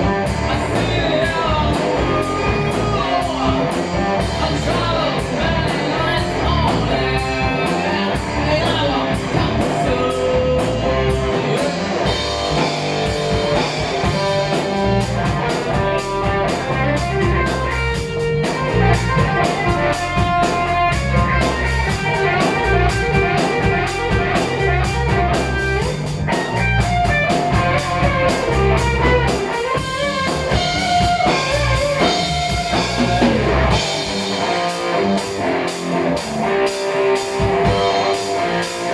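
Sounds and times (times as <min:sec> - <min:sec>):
bass guitar: 0:00.0 - 0:38.9
drum kit: 0:00.0 - 0:38.9
electric guitars: 0:00.0 - 0:38.9.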